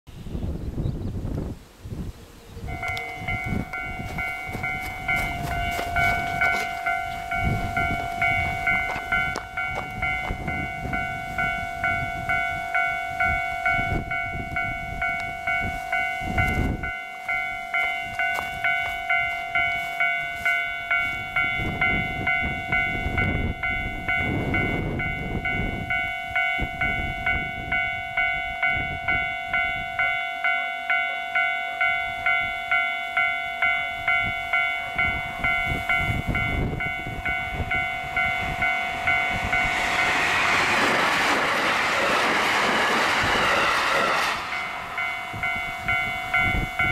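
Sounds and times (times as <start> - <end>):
level crossing warning bell: 2.6 - 46.9
train rumbling past: 2.6 - 46.9.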